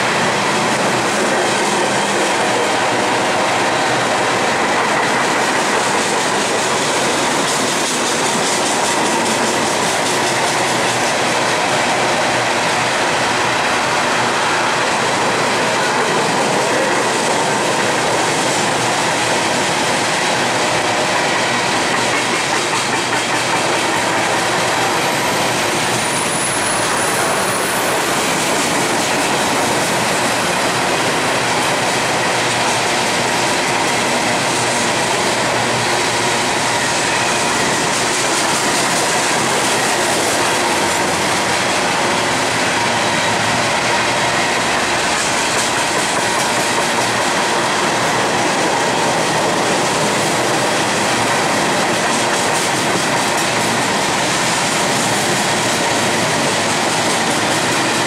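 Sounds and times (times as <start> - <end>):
freight train cars rattling past: 0.0 - 58.0.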